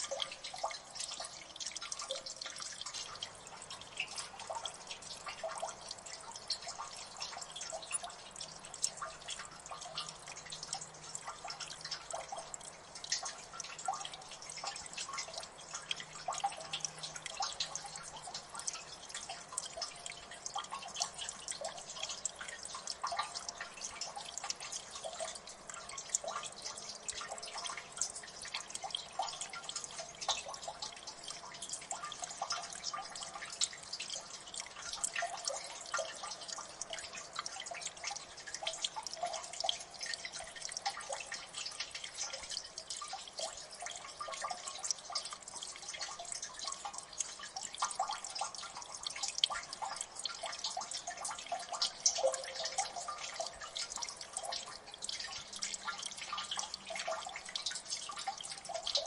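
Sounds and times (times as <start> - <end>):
water drops plinking: 0.0 - 59.0.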